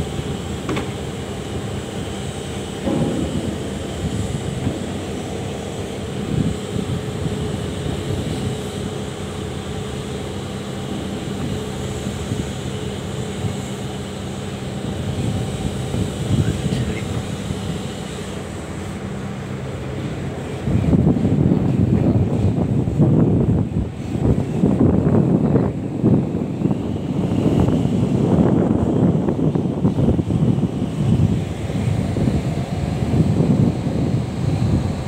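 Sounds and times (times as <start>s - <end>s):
boat hoist engine droning: 0.0s - 35.0s.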